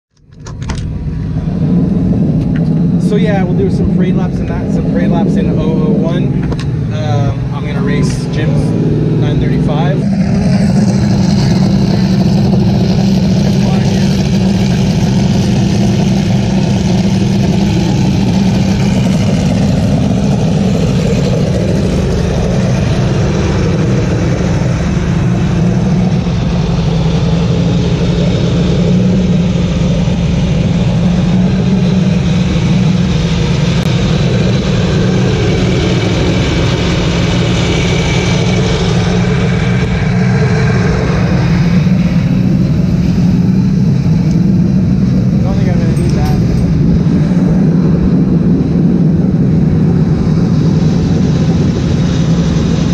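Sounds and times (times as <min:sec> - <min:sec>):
racing car engine idling: 0:00.2 - 0:52.9
wind buffeting microphone: 0:00.4 - 0:52.9.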